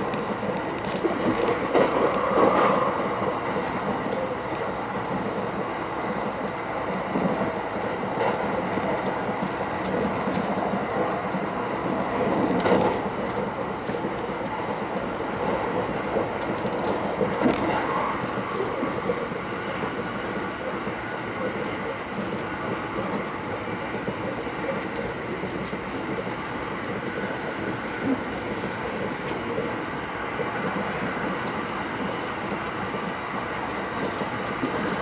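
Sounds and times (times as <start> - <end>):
train cabin rumble and rush: 0.0 - 35.0.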